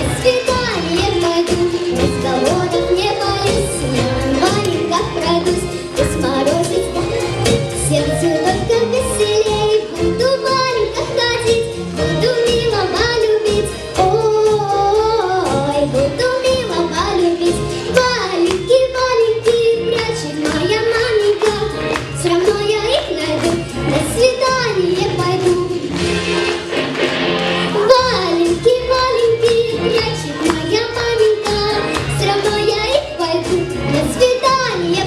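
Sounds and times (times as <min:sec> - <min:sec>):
girl singing with vibrato: 0:00.0 - 0:26.0, 0:27.7 - 0:35.0
backing track with beat: 0:00.0 - 0:35.0.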